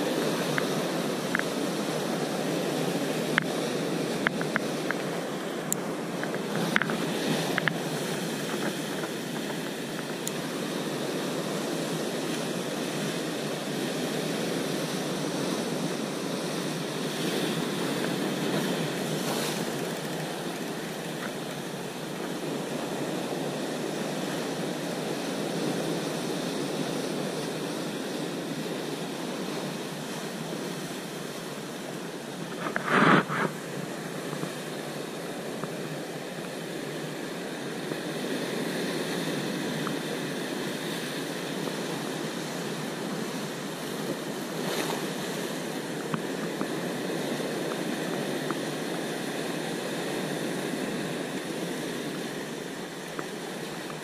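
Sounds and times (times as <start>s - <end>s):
surf breaking over rocks: 0.0s - 54.0s.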